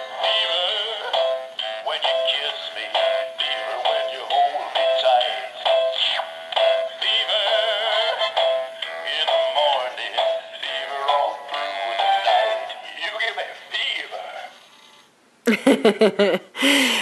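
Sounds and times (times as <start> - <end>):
toy singing through tinny speaker: 0.0 - 14.9.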